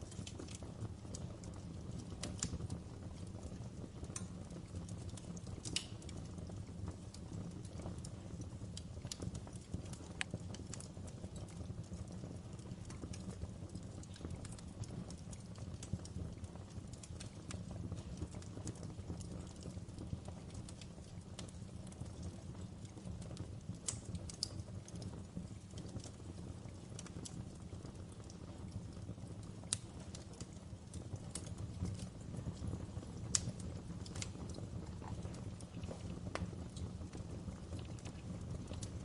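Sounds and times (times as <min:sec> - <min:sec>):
fire crackling and popping: 0:00.0 - 0:39.0.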